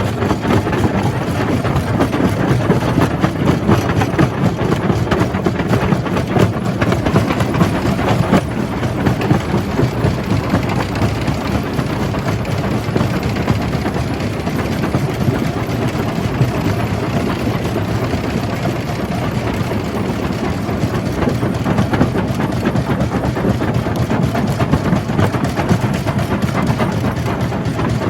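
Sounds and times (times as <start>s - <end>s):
jaw crusher rumbling: 0.0s - 28.0s.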